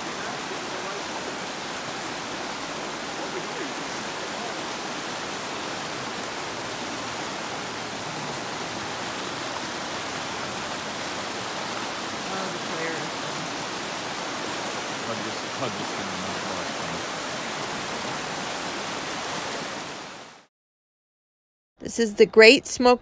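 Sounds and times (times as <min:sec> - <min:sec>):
stream rushing over rocks: 0:00.0 - 0:20.5.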